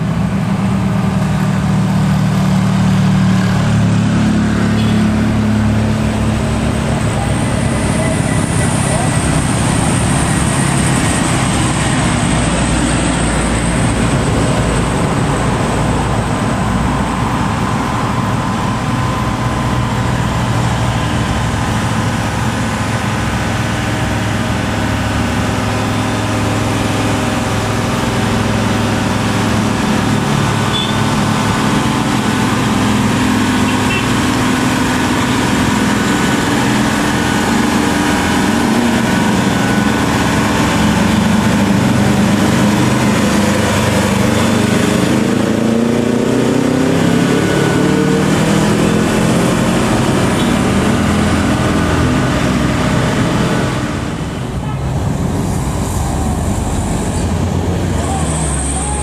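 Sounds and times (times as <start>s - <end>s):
truck diesel engine pulling: 0.0s - 59.0s.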